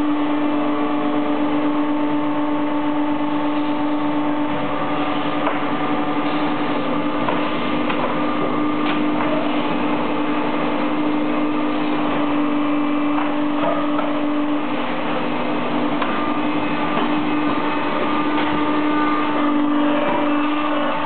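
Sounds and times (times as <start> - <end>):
factory noise hiss: 0.0 - 21.0
injection moulding machine hum: 0.0 - 21.0.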